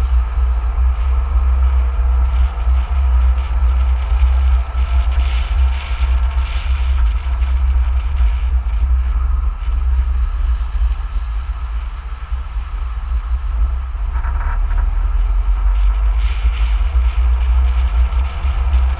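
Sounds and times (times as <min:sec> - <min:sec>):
wind and road noise rumble: 0:00.0 - 0:18.9.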